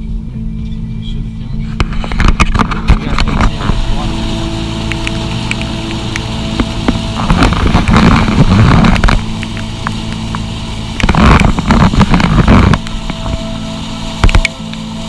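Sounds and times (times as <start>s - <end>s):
car engine running: 0.0s - 15.0s
loud water rushing: 1.8s - 15.0s.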